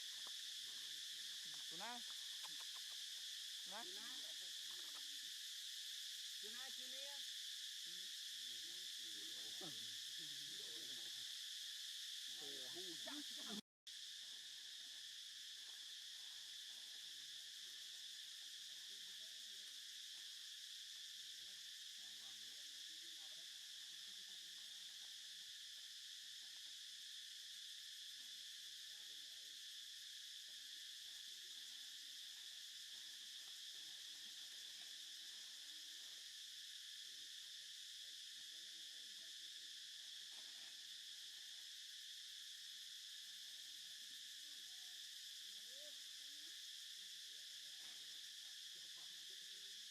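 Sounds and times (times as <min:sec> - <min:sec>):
insect chorus drone: 0:00.0 - 0:49.9.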